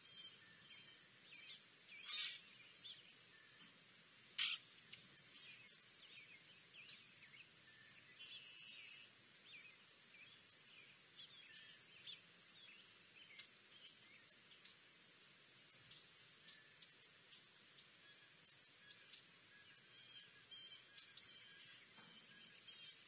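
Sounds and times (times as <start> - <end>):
faint songbirds chirping: 0.0 - 23.0.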